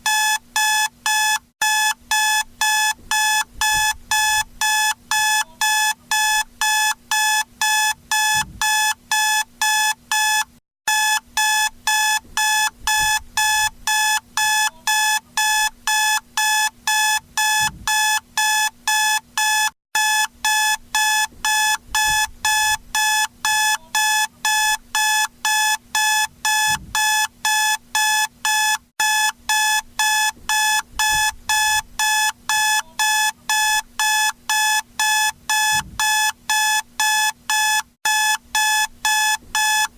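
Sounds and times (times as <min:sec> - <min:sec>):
alarm clock beeping: 0:00.1 - 0:39.9.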